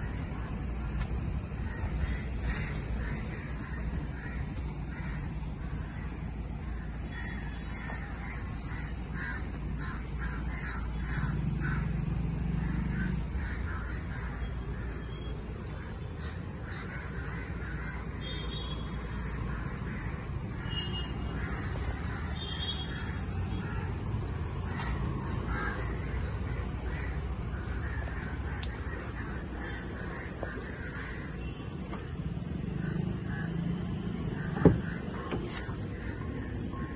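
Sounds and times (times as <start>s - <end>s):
crows cawing: 0.0s - 36.9s.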